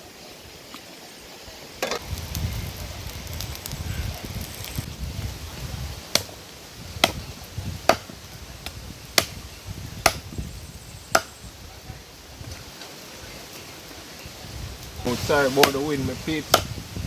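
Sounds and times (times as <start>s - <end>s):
wind rumbling on microphone: 1.5s - 17.0s.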